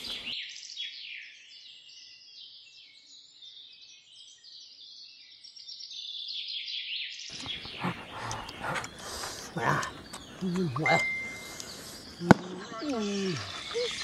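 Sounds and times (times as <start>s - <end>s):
birds chirping and twittering: 0.0s - 14.0s.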